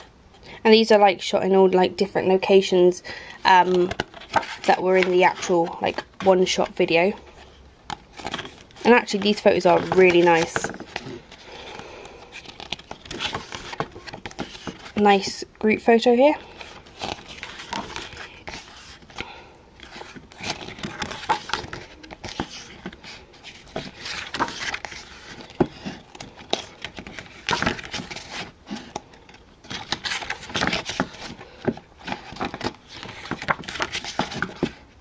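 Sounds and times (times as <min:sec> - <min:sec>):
photo book pages turning: 0:03.6 - 0:15.3, 0:16.4 - 0:34.9.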